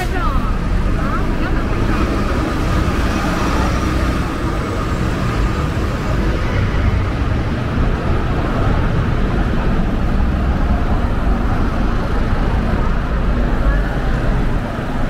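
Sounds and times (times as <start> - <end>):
road traffic rumble: 0.0 - 15.0
street noise: 0.0 - 15.0.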